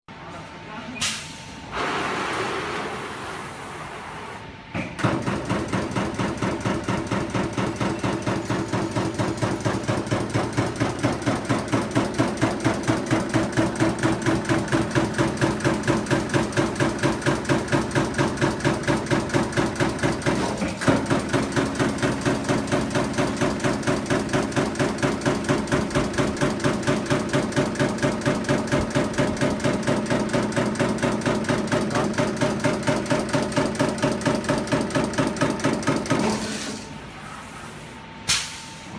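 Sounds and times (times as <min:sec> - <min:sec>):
punching machine strokes: 0:05.0 - 0:36.8.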